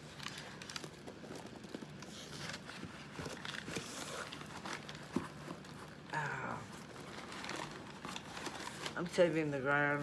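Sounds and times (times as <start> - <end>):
packaging rustling and clicking: 0.0 - 6.1, 6.7 - 9.0.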